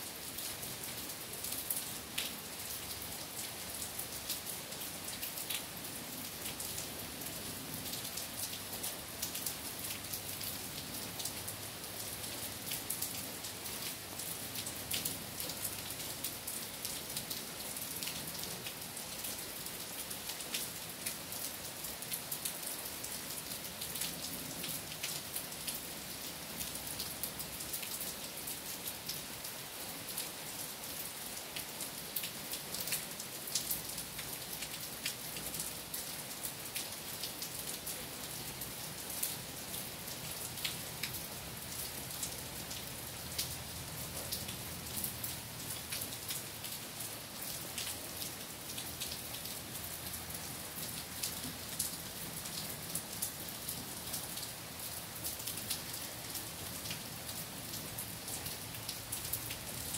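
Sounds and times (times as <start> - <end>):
rain falling on trees: 0.0 - 59.9.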